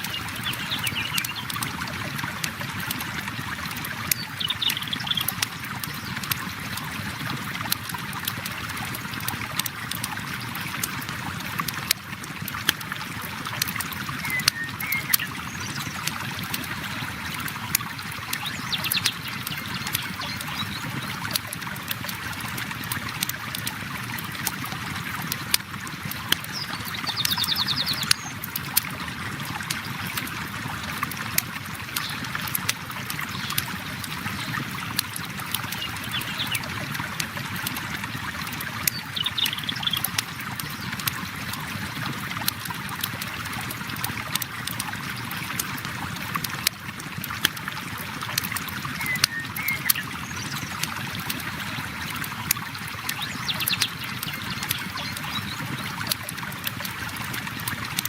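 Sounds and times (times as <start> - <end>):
flowing river water: 0.0 - 58.0.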